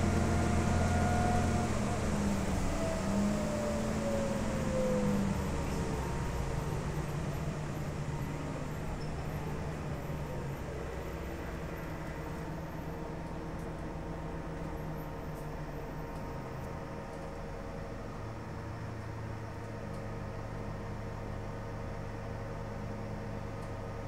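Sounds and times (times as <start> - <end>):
bus drivetrain hum: 0.0 - 24.0
road rumble: 0.0 - 24.0.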